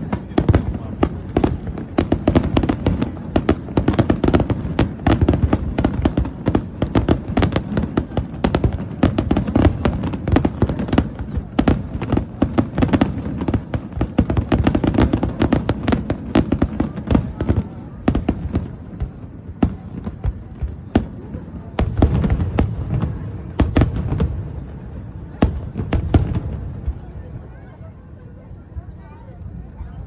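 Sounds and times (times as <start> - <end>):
fireworks bangs and crackles: 0.0 - 27.7.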